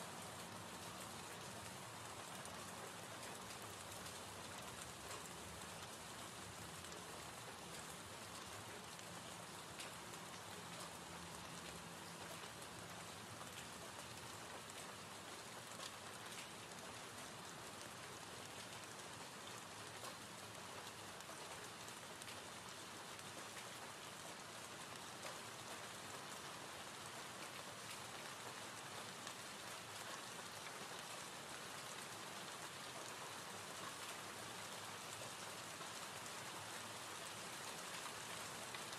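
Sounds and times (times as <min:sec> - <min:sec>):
soft hiss of falling rain: 0:00.0 - 0:38.9
faint raindrop ticks: 0:00.1 - 0:38.9.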